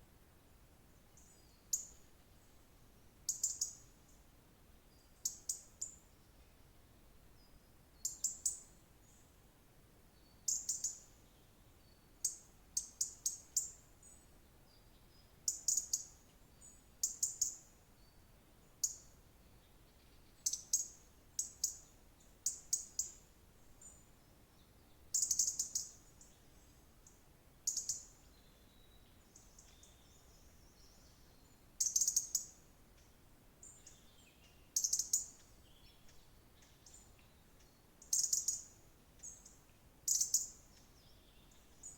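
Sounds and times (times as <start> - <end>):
songbird chirping: 0.2 - 41.9
faint calls of other birds: 0.4 - 9.4, 10.1 - 41.9.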